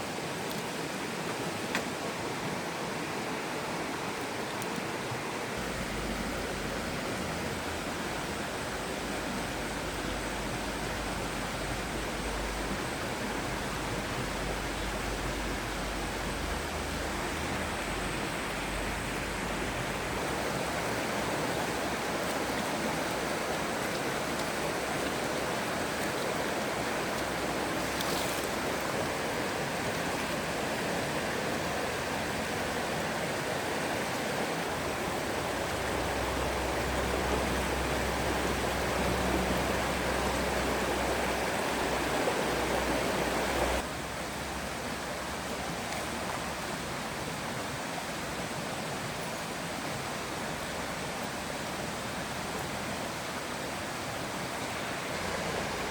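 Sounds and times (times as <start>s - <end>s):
stream water rushing: 0.0s - 55.9s.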